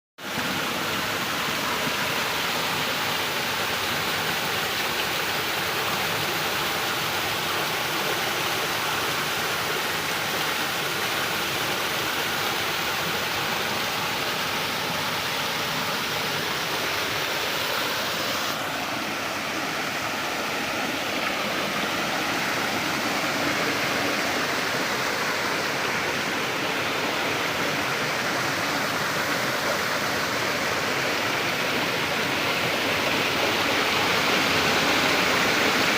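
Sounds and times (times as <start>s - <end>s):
waterfall rushing: 0.2s - 35.9s.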